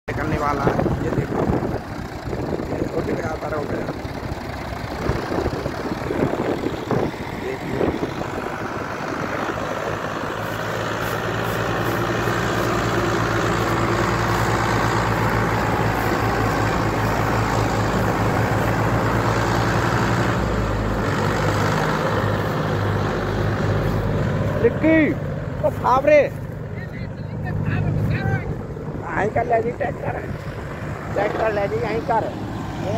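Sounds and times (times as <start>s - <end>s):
tractor diesel engines under load: 0.0s - 32.9s.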